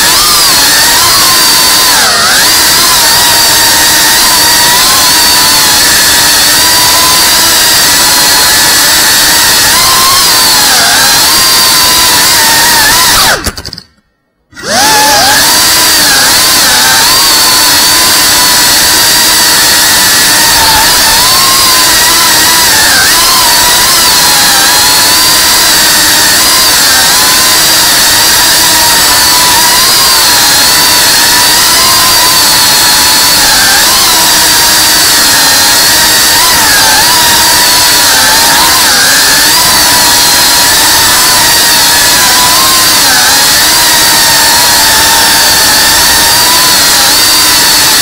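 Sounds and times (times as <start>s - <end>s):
drone motors whining: 0.0s - 48.0s.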